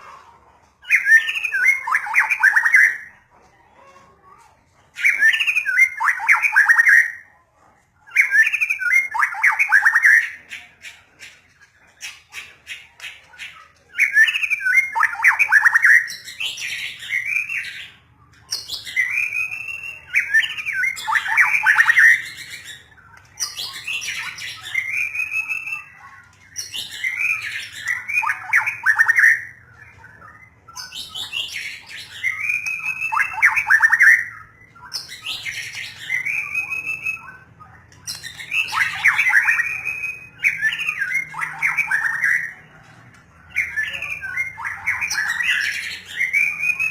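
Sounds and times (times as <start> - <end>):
songbird whistling and chattering: 0.8 - 3.3, 4.9 - 7.3, 8.1 - 46.9.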